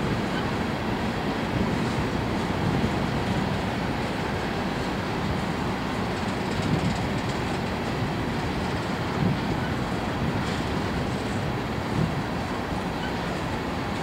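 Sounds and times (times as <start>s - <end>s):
train wheels rumbling on rail: 0.0s - 14.0s
wheel clacks on rail: 1.6s - 14.0s.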